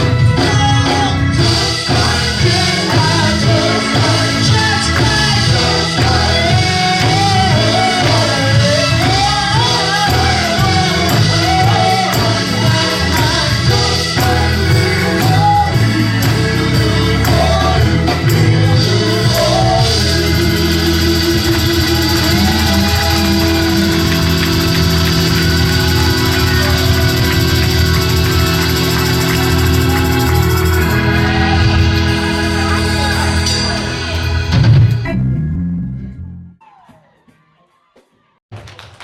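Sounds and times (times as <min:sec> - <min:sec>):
person singing: 0:00.0 - 0:34.4
gospel band accompaniment: 0:00.0 - 0:37.0.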